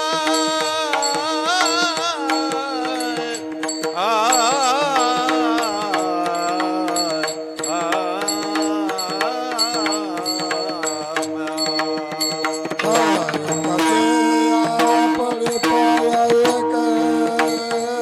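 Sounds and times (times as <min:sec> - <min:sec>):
man singing devotional melody: 0:00.0 - 0:18.0.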